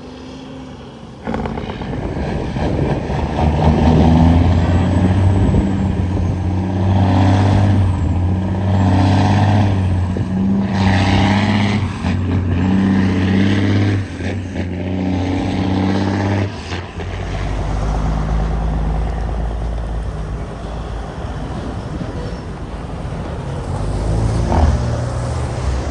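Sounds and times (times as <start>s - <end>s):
truck diesel engine under load: 0.0s - 25.9s.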